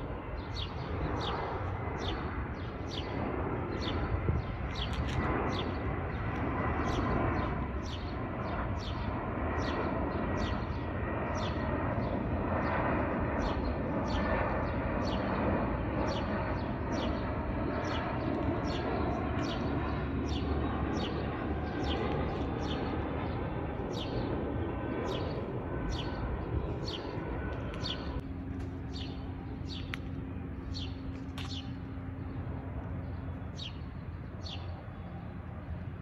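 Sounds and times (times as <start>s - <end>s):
jet airliner engines rumbling: 0.0s - 36.0s.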